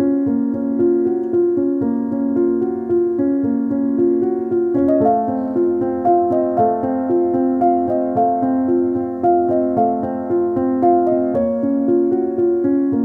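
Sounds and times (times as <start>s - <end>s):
keyboard music: 0.0s - 13.0s.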